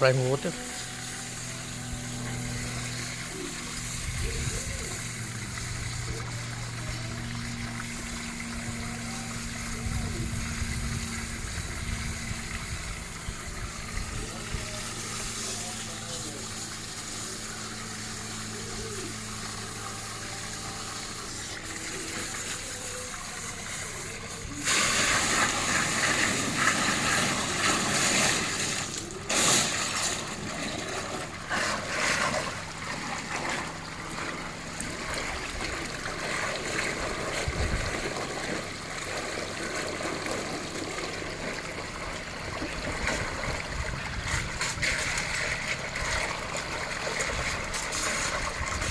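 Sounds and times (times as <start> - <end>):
water rushing and splashing: 0.0 - 48.9.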